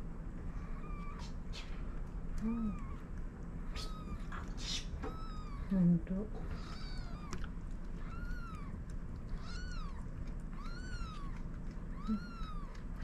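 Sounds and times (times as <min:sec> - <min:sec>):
kittens mewing: 0:00.6 - 0:05.8, 0:06.4 - 0:13.0.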